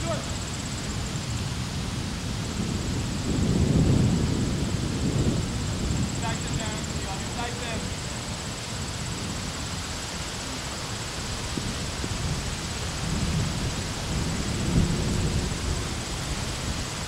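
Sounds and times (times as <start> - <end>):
background hiss: 0.0 - 17.0
wind buffeting microphone: 0.0 - 17.0.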